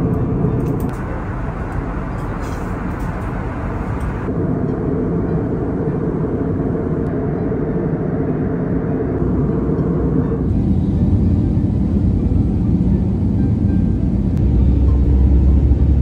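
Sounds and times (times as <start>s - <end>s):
jet airliner cabin drone: 0.0s - 16.0s.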